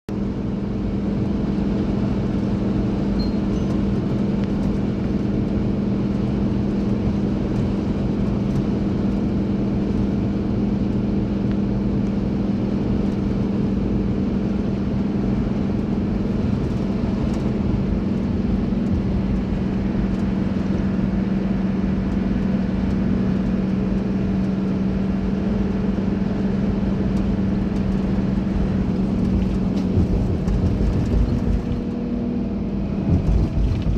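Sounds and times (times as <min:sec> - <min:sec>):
constant low hum: 0:00.1 - 0:33.9
vehicle engine and road noise: 0:00.1 - 0:33.9.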